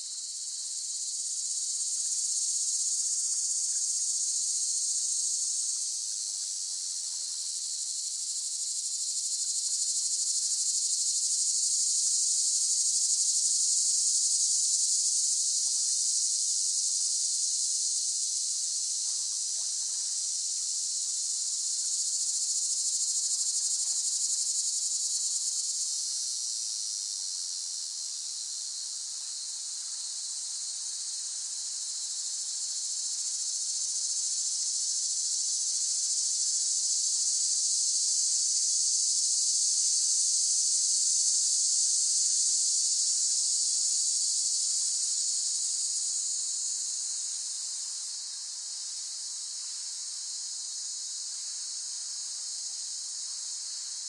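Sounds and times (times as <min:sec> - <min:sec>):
cicadas buzzing: 0:07.5 - 0:18.4, 0:19.6 - 0:54.0.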